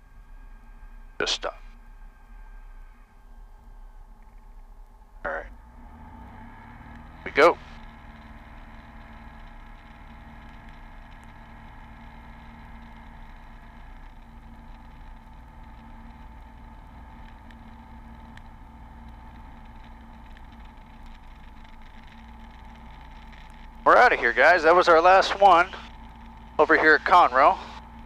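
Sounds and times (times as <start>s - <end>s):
aircraft piston engine drone: 0.0s - 28.0s.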